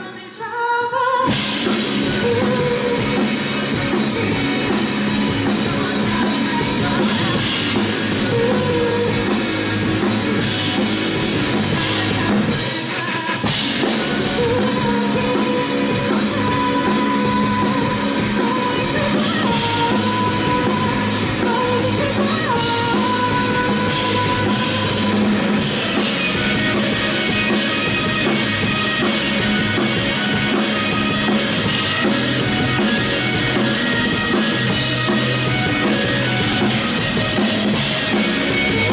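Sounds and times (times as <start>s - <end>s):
drum kit: 1.2s - 38.9s
live rock band playing: 1.2s - 38.9s.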